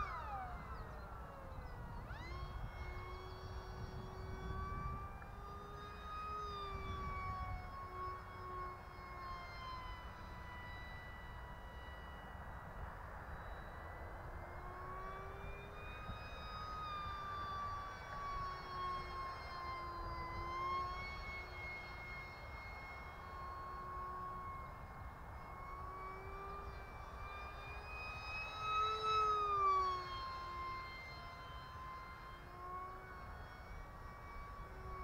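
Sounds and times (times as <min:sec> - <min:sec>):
model plane motor whine: 0:00.0 - 0:35.0.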